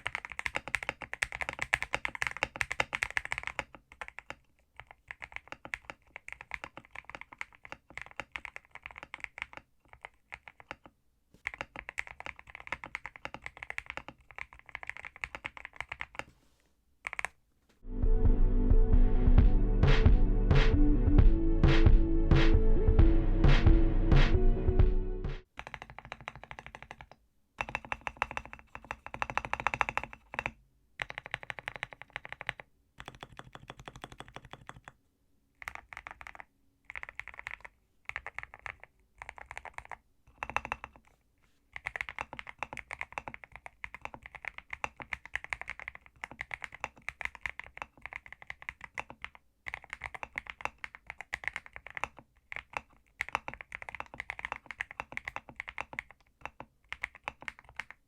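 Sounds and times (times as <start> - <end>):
mechanical keyboard typing: 0.0 - 16.3, 17.0 - 17.4, 25.5 - 35.0, 35.6 - 41.1, 41.7 - 58.0.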